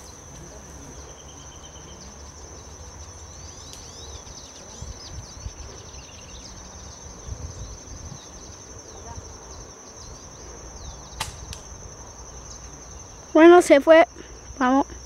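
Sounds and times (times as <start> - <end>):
low wind rumble: 0.0 - 13.2
high-pitched insect trill: 0.0 - 15.0
small birds chirping: 0.0 - 15.0.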